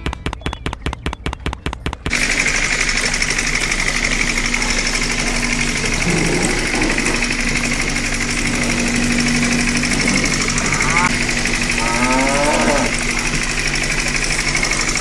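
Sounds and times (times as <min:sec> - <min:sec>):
electric water pump buzzing: 0:00.0 - 0:15.0.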